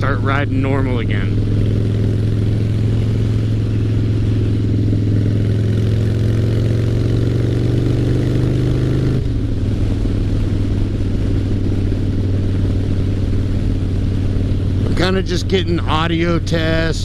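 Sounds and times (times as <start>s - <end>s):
loud motorcycle engine revving: 0.0s - 17.0s.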